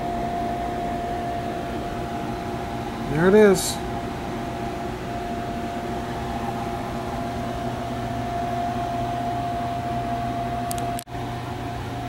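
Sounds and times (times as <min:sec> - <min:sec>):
machine hum with high whine: 0:00.0 - 0:12.0.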